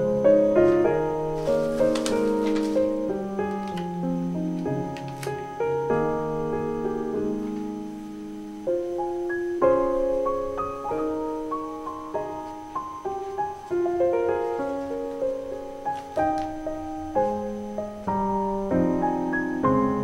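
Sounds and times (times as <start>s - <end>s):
slow solo piano: 0.0s - 20.0s.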